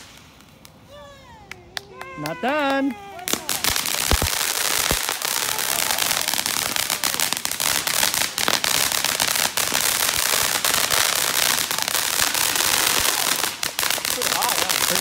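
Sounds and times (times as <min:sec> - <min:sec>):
firework crackling and hissing: 0:00.0 - 0:15.0.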